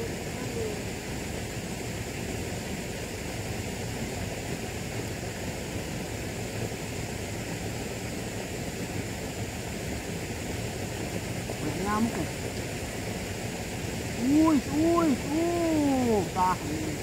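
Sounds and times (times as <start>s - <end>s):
outdoor rushing hiss: 0.0s - 17.0s.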